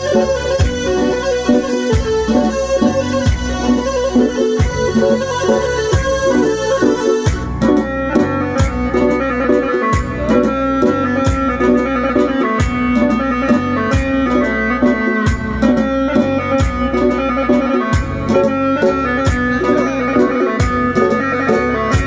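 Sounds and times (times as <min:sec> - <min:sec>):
drum and bass beat: 0:00.0 - 0:22.0
electronic keyboard playing: 0:00.0 - 0:22.0.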